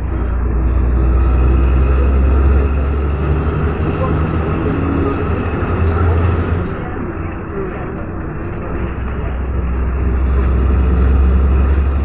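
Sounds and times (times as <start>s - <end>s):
bus diesel engine drone: 0.0s - 12.0s
road noise: 0.0s - 12.0s.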